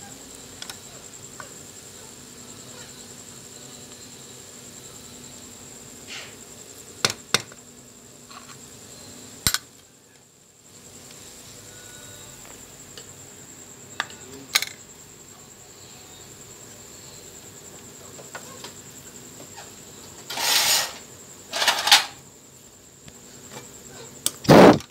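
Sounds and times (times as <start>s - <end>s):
faint steady high whine: 0.0s - 24.9s.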